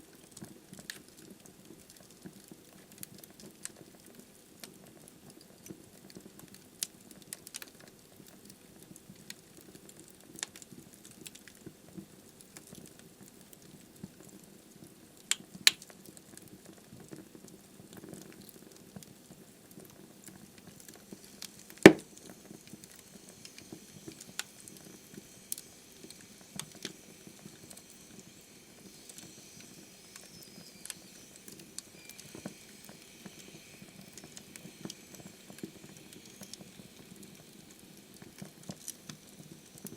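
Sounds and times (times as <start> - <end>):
faint hiss: 0.0 - 39.9
fire crackles and pops: 0.0 - 39.9
logs burning in fireplace: 0.0 - 39.9.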